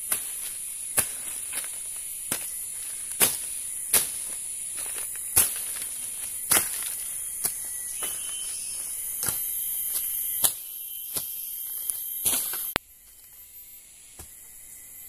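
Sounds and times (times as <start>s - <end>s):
machete striking dry branches: 0.0s - 12.8s
insects droning: 0.0s - 15.0s.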